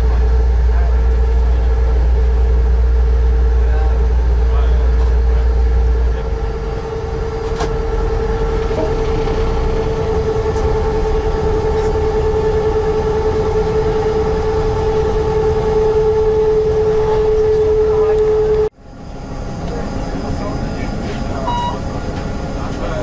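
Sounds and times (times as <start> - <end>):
diesel railcar rumble: 0.0 - 23.0
steady whine: 0.0 - 23.0.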